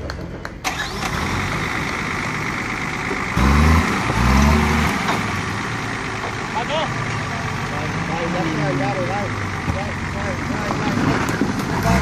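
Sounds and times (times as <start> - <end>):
vehicle engine revving: 0.6 - 12.0.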